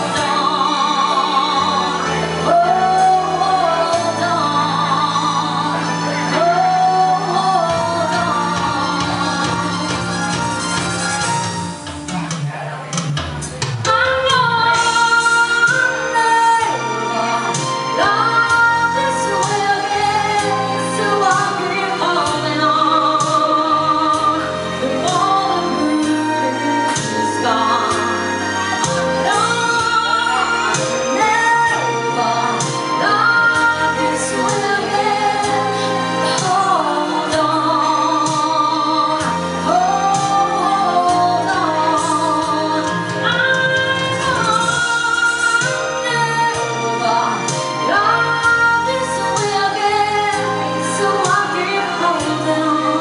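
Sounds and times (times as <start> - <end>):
woman singing a slow ballad: 0.0 - 10.8, 13.8 - 53.0
band with bass and drums: 5.9 - 48.7.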